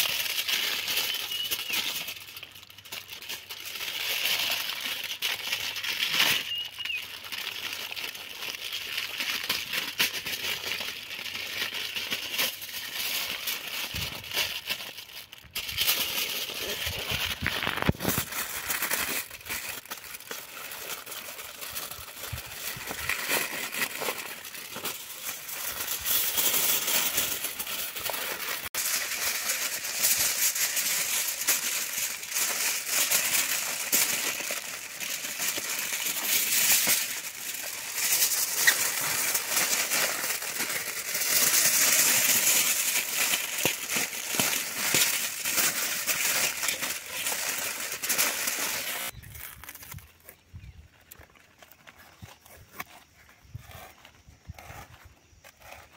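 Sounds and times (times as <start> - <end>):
aluminium foil crinkling: 0.0 - 55.9.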